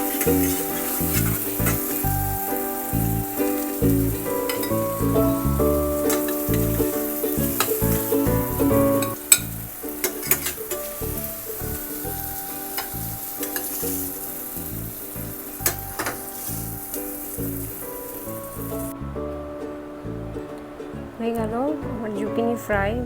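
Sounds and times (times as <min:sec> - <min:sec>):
vegetables sizzling in oil: 0:00.0 - 0:19.0
background music: 0:00.0 - 0:23.0.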